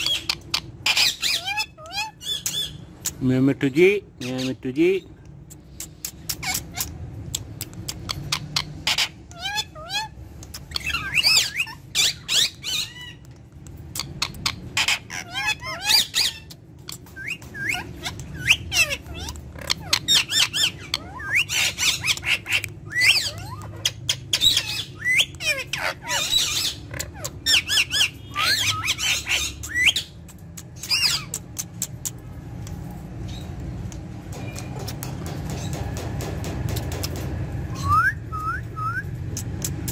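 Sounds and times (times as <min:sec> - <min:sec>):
parakeet squawking and chirping: 0:00.0 - 0:38.3.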